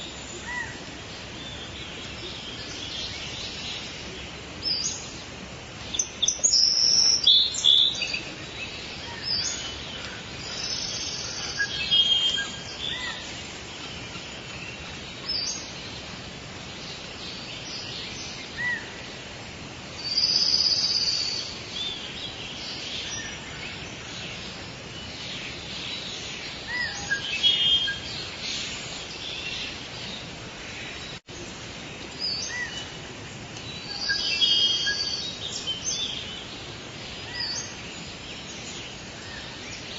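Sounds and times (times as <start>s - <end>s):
birds calling and chirping: 0.0s - 39.9s
forest ambience hiss: 0.0s - 39.9s.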